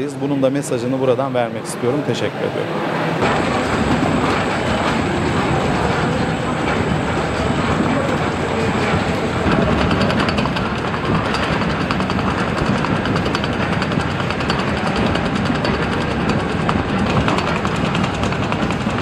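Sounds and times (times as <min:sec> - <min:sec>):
conveyor machine rumble: 0:00.0 - 0:19.0.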